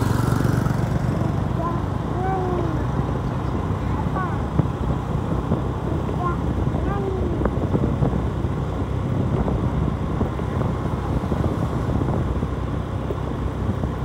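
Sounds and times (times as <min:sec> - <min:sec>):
motorcycle engine: 0:00.0 - 0:14.0
wind noise: 0:00.0 - 0:14.0.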